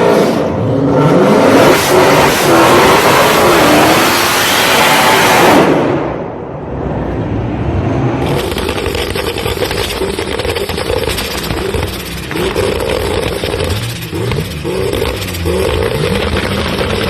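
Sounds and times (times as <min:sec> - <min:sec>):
car engine accelerating hard: 0:00.0 - 0:06.2, 0:06.8 - 0:17.0.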